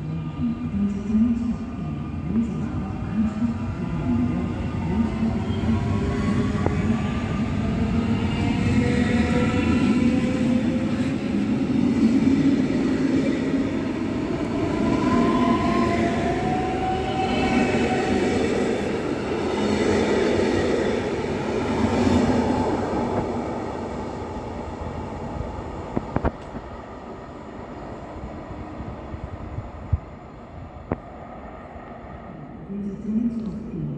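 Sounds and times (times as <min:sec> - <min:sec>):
train whine: 0:00.0 - 0:33.9.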